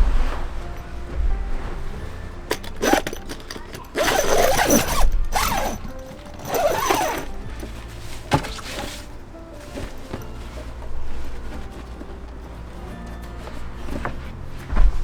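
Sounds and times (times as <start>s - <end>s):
gear rattling and creaking: 0.0s - 15.0s.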